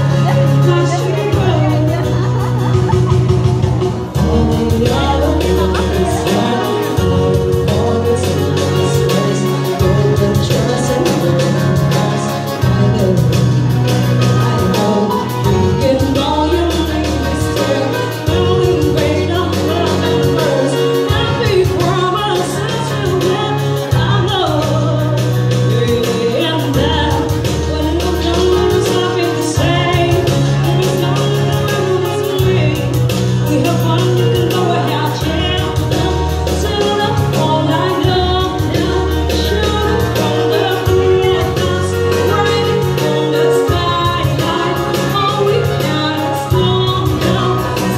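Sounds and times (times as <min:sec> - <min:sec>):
electronic keyboard accompaniment: 0:00.0 - 0:47.9
steady drum beat: 0:00.0 - 0:47.9
woman singing: 0:00.0 - 0:47.9.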